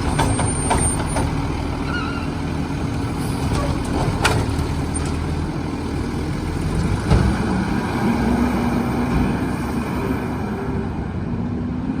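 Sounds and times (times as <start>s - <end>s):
garbage truck engine running: 0.0s - 10.4s.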